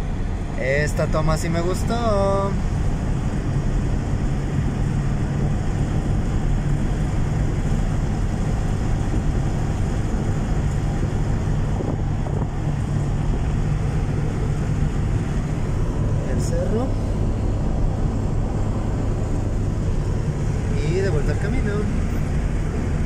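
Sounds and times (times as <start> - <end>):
car engine hum and road noise: 0.0 - 23.0.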